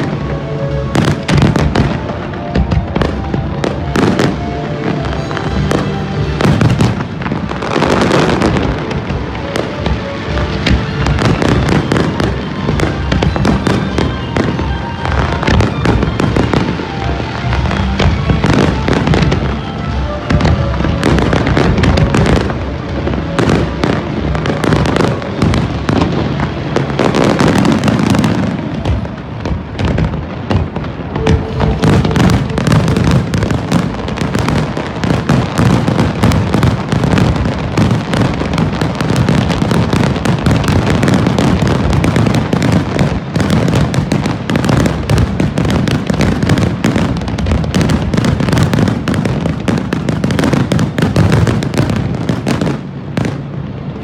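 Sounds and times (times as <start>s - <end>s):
music playing: 0.0s - 52.6s
fireworks bangs and crackling: 0.0s - 54.0s.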